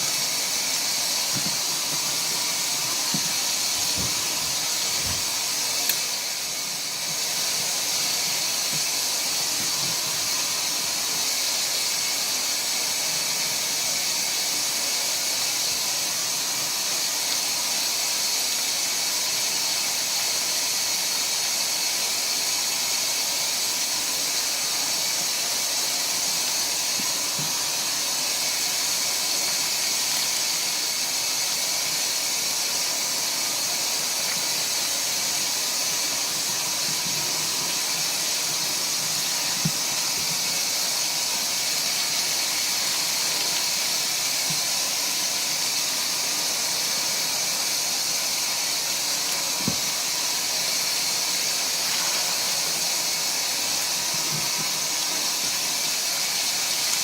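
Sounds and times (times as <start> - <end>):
water running into washing machine: 0.0 - 57.0.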